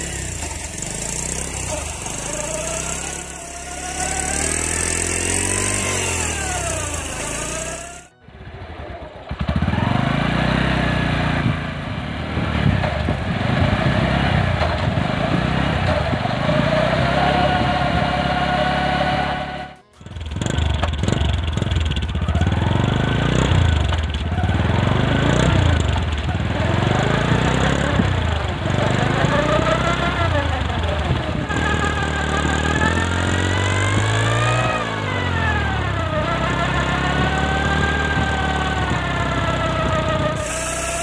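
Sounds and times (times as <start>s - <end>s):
motorcycle engine revving: 0.0s - 41.0s
whining tone: 0.0s - 41.0s.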